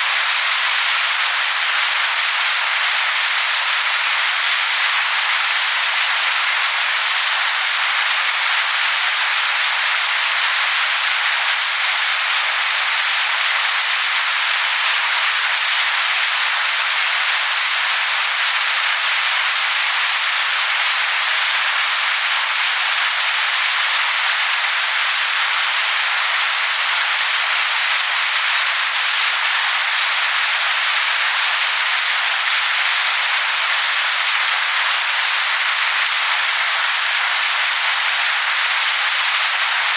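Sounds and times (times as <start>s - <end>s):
waterfall splashing onto rocks: 0.0s - 39.9s.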